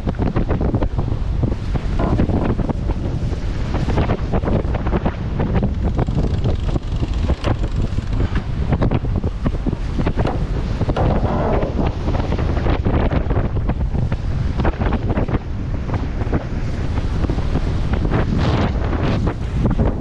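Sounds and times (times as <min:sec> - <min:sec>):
water rushing along hulls: 0:00.0 - 0:20.0
wind buffeting microphone: 0:00.0 - 0:20.0.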